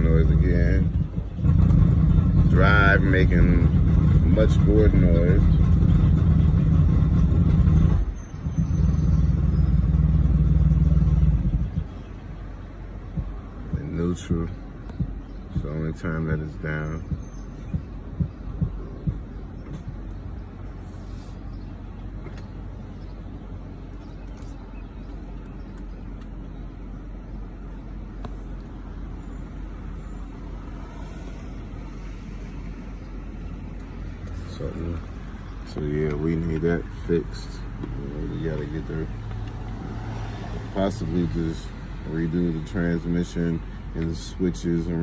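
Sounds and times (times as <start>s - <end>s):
car engine idling hum: 0.0s - 45.0s
loud low transmission drone: 0.0s - 45.0s.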